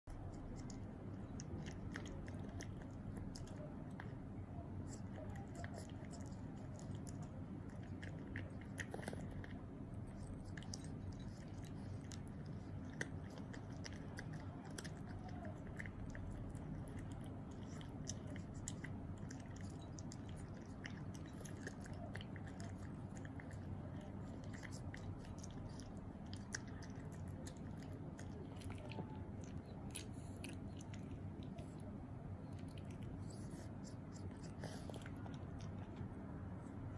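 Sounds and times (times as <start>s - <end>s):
cat crunching treats: 0.1s - 36.3s.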